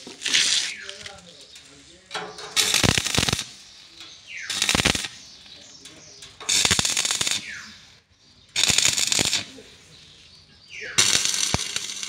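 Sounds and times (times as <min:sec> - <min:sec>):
arc welding crackling: 0:00.0 - 0:12.0.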